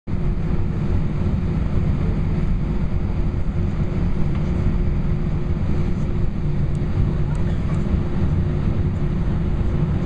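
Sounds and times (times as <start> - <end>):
aircraft cabin engine rumble: 0.1 - 10.0
faint steady hum: 0.1 - 10.0.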